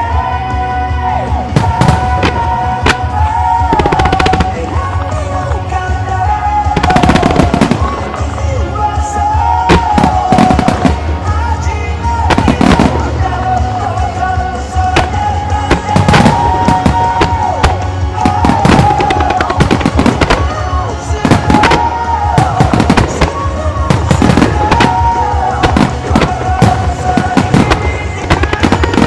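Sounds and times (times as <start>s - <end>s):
music over loudspeakers: 0.0s - 29.0s
fireworks bursting: 1.0s - 29.0s.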